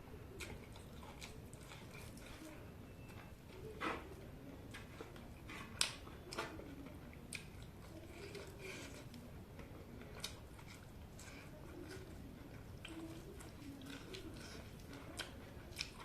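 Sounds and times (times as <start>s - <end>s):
person chewing food: 0.3s - 16.0s.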